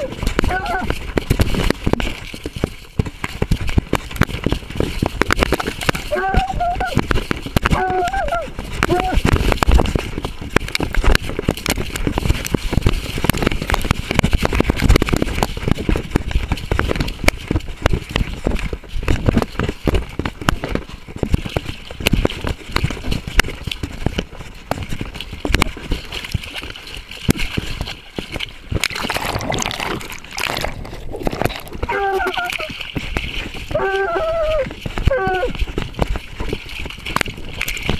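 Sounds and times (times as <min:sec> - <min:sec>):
camera knocking and rubbing: 0:00.0 - 0:37.9.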